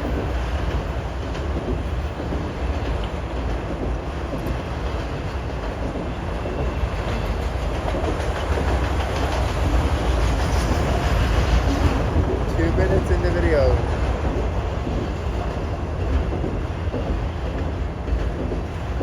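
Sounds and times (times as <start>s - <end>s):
freight train rumbling past: 0.0s - 19.0s
wheel clatter over rail joints: 0.0s - 19.0s.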